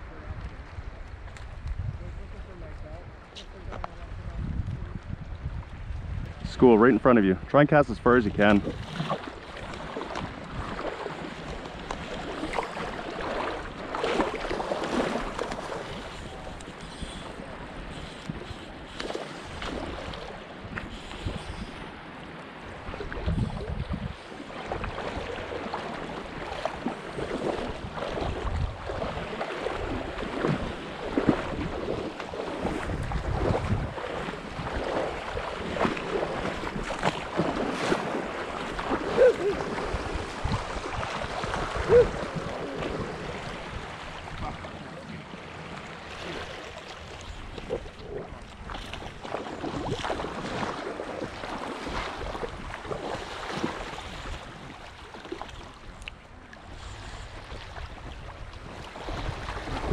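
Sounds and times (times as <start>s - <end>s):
wind buffeting microphone: 0.0s - 22.0s, 22.7s - 46.3s, 56.7s - 59.9s
water sloshing around legs: 8.5s - 59.9s.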